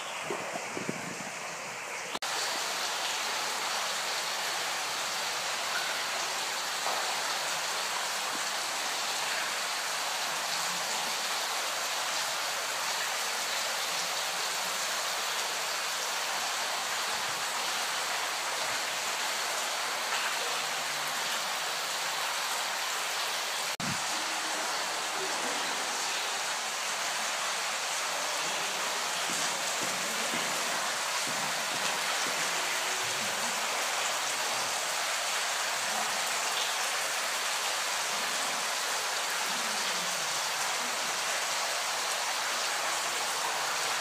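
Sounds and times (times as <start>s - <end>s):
rain splashing on standing water: 0.0s - 44.0s.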